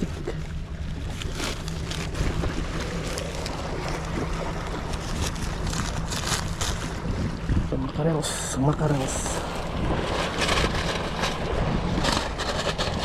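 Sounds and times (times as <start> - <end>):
rustling and handling noises: 0.0 - 7.0, 8.9 - 13.0
sea waves: 0.0 - 13.0
wind buffeting microphone: 1.9 - 13.0.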